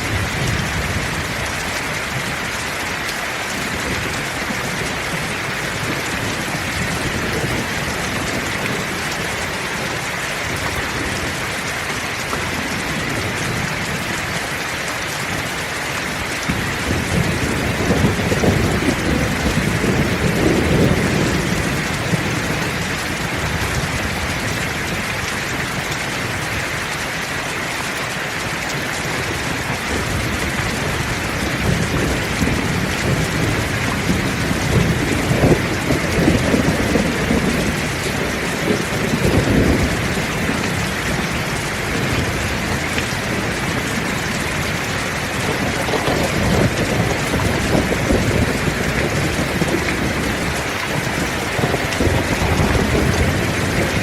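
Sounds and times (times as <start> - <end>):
low rolling thunder: 0.0 - 2.7, 3.5 - 14.5, 16.2 - 26.6, 28.7 - 54.0
heavy rain falling: 0.0 - 54.0.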